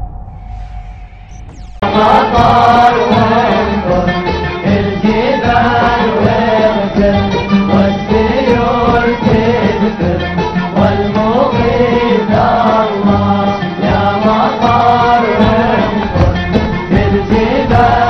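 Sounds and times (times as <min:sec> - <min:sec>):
musical accompaniment: 0:00.0 - 0:18.0.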